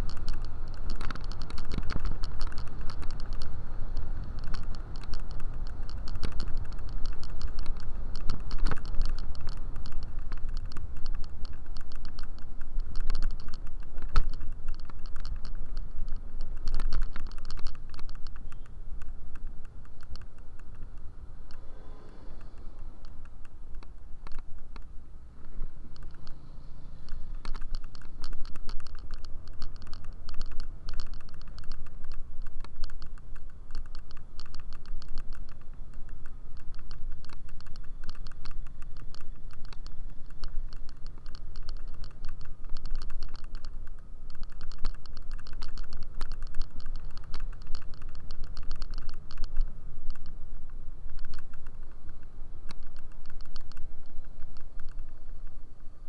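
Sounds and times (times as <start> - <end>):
scooter clicking rattle: 0.0 - 55.3
wind and road rumble: 0.0 - 56.0.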